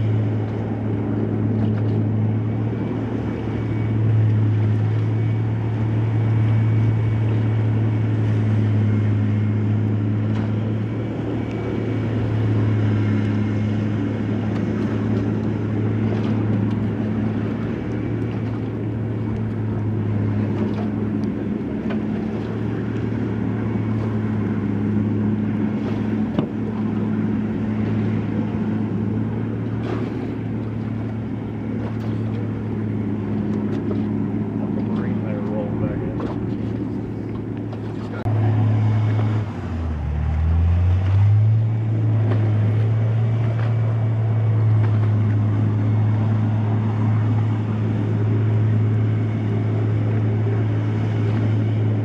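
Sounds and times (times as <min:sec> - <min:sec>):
vehicle engine low hum: 0:00.0 - 0:52.0
water rushing around hull: 0:00.0 - 0:52.0.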